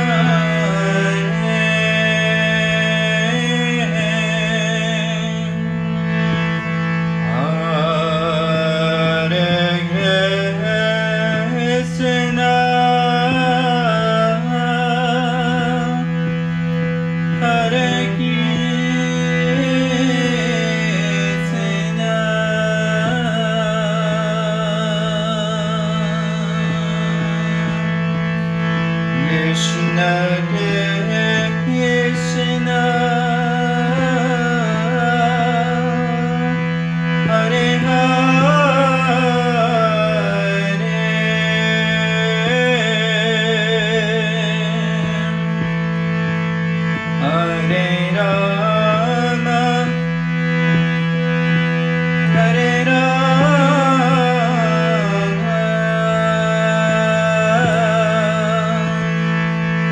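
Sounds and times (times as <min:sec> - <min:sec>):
low drone: 0:00.0 - 0:59.9.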